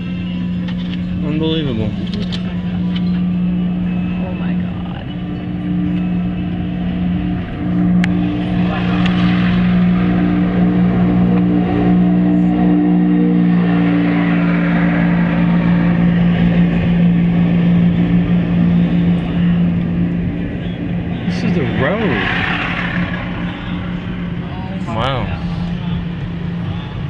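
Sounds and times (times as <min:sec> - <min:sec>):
car engine and road drone: 0:00.0 - 0:27.0.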